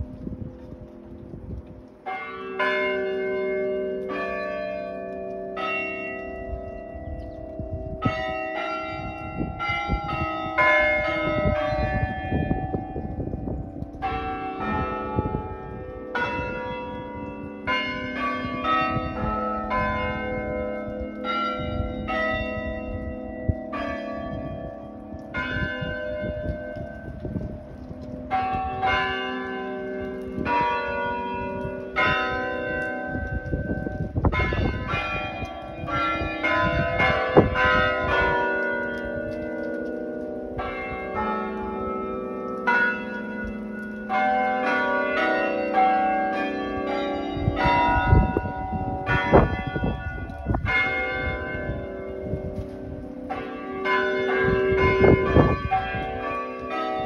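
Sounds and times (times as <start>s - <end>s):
tower bells chiming a tune: 0.0s - 57.0s.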